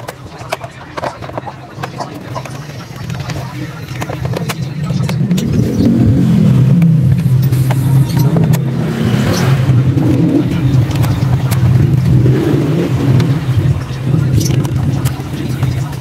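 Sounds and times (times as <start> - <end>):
loud low motor drone: 3.1 - 16.0.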